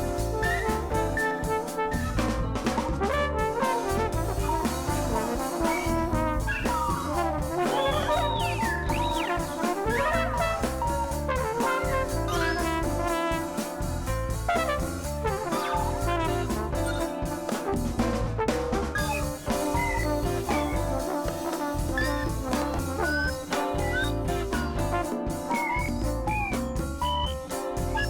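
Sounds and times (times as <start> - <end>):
jazz music with horns: 0.0 - 28.0.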